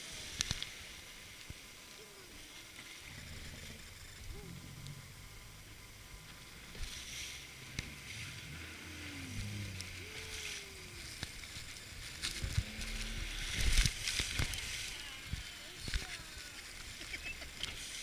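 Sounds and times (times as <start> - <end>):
low rumble: 2.5 - 17.6.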